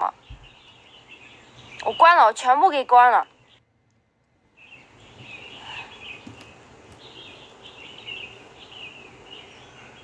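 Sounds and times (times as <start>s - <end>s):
birds chirping: 0.0s - 10.0s
steady background hiss: 0.0s - 10.0s.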